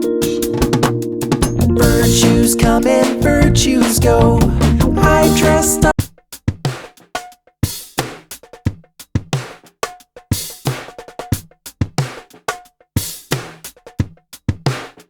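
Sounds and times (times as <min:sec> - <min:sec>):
kick and snare drum beat: 0:00.2 - 0:15.0.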